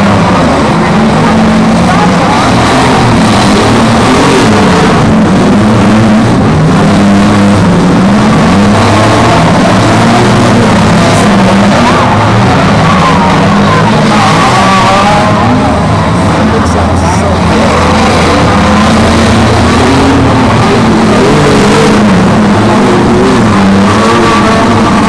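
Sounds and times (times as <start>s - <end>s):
car engines revving: 0.0s - 25.0s
cars ramming: 0.0s - 25.0s.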